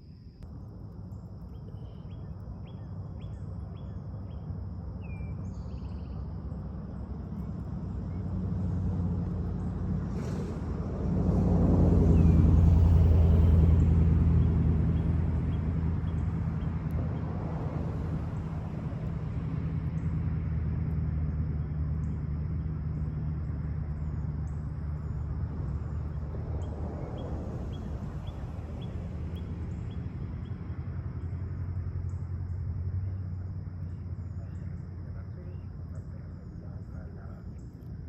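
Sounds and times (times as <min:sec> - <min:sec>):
vehicle engine humming: 0:00.0 - 0:38.0.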